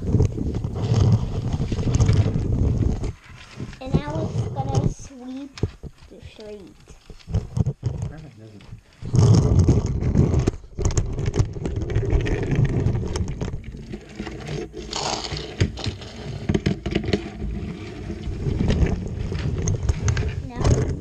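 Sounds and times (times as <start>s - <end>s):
toy wheels scraping and rumbling: 0.0s - 21.0s.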